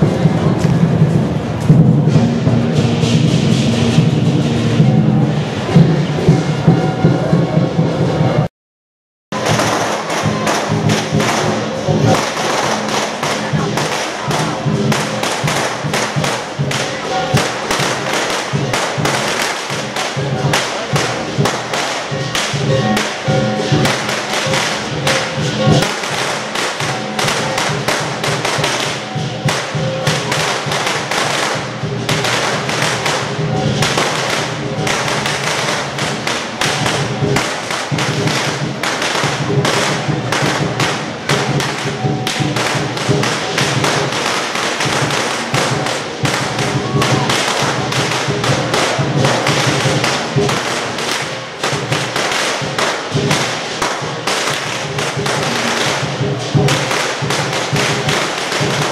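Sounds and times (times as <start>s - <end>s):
clashing cymbals: 0.0s - 8.3s, 9.4s - 58.9s
drum beaten rapidly: 0.0s - 8.5s, 9.3s - 58.9s.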